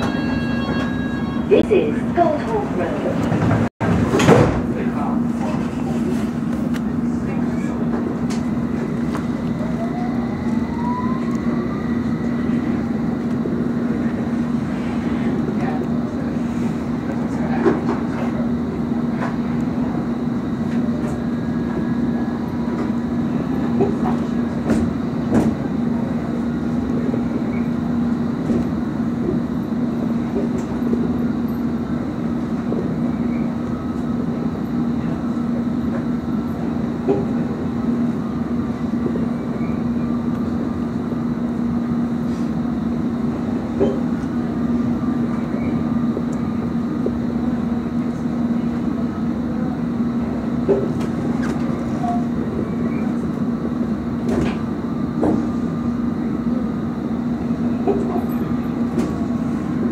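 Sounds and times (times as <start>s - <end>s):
train hum and rumble: 0.0s - 59.9s.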